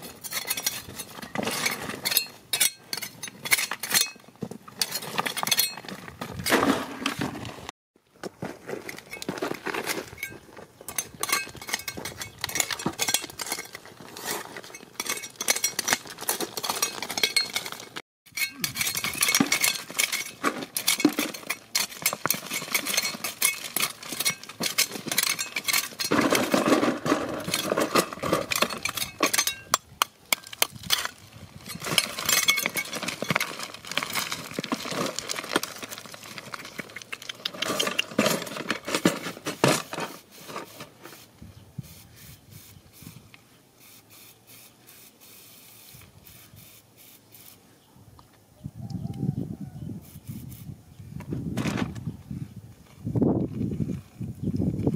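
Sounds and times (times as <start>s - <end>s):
hand tools digging rocky ground: 0.0s - 45.3s.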